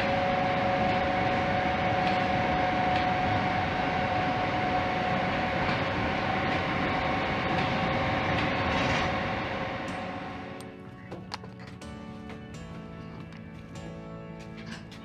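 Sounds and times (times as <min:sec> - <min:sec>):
train carriage rumble: 0:00.0 - 0:15.0
two-note hum: 0:00.0 - 0:15.0.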